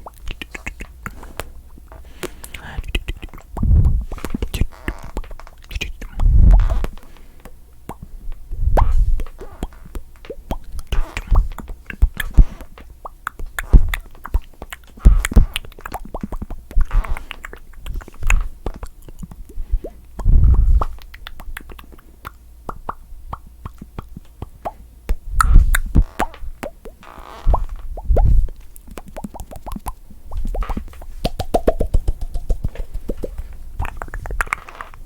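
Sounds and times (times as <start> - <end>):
mouth popping sounds: 0.0 - 35.0.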